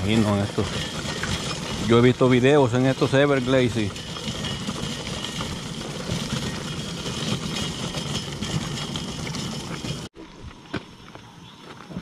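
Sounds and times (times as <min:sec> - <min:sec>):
cart wheels crunching on gravel: 0:00.0 - 0:12.0
footsteps on gravel: 0:00.0 - 0:12.0.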